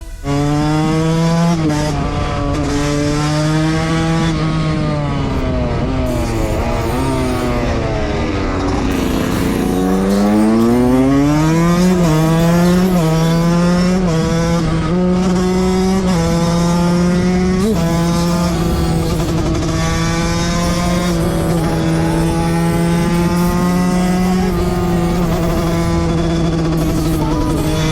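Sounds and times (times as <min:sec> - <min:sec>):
two-stroke motorcycle engine revving: 0:00.0 - 0:27.9.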